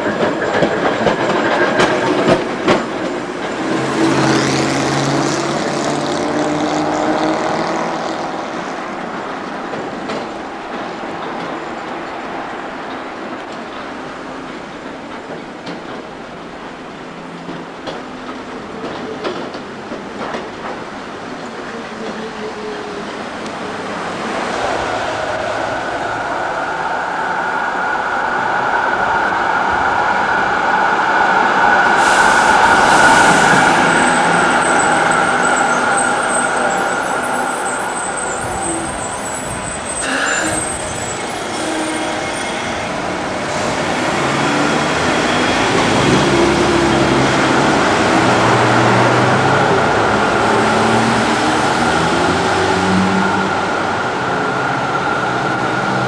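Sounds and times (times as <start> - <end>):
tram high whine: 0.0 - 56.0
tram passing close: 0.0 - 56.0.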